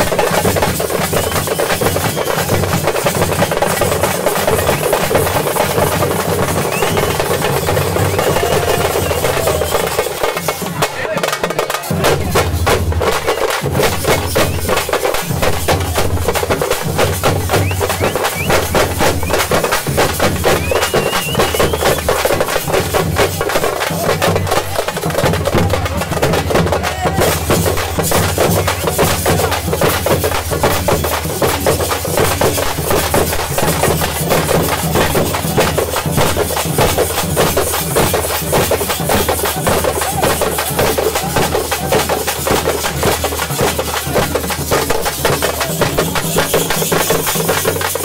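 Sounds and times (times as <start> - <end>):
crowd voices: 0.0 - 48.0
frame drums beaten fast: 0.0 - 48.0.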